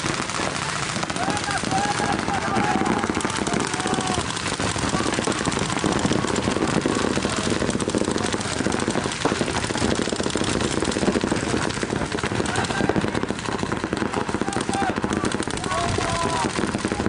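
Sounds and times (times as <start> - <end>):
paintball markers firing rapidly: 0.0 - 17.0.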